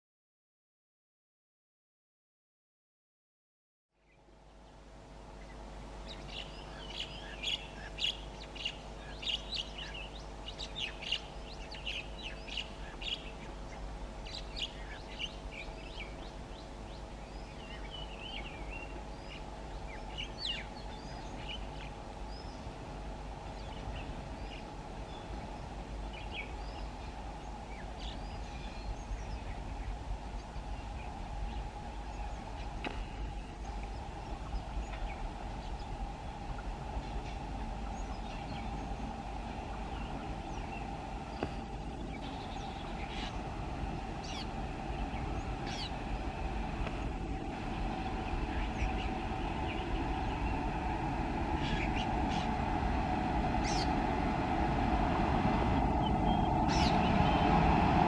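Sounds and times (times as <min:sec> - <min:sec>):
birds chirping: 0:04.0 - 0:54.1, 0:55.8 - 0:58.0
electric locomotive humming: 0:04.6 - 0:58.0.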